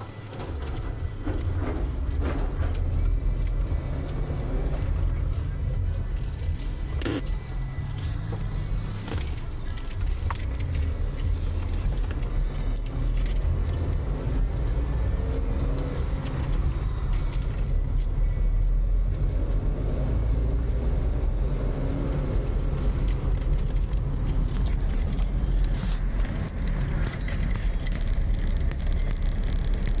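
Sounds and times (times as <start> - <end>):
car engine rumble: 0.0 - 30.0
road noise inside car: 0.0 - 30.0.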